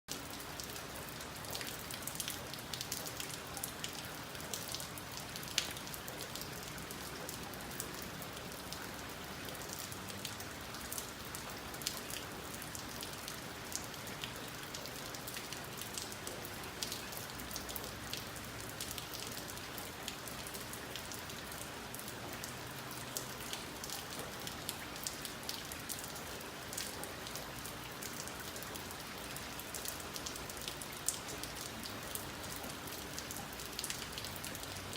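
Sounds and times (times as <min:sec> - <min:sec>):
raindrop ticks: 0:00.1 - 0:34.9
steady rain patter: 0:00.1 - 0:34.9.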